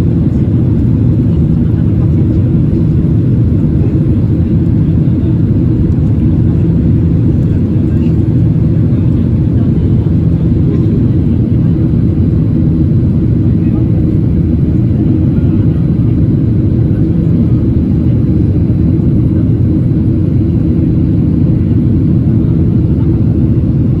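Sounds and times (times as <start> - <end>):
jet engines and rushing air: 0.0 - 24.0.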